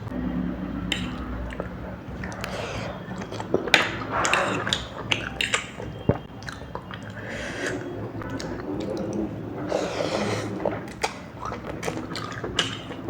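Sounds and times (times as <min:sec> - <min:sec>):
person chewing food: 0:00.0 - 0:13.0
sharp mouth clicks: 0:00.8 - 0:13.0.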